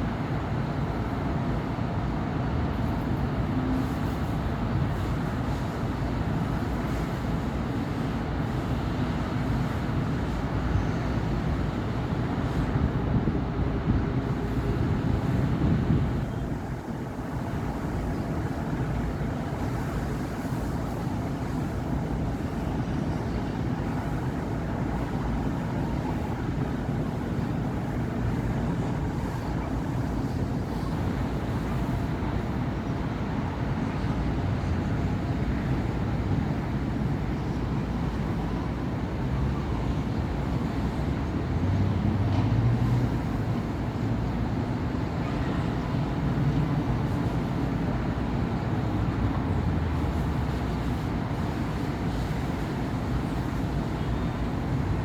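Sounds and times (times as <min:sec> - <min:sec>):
city traffic rumble: 0:00.0 - 0:55.0.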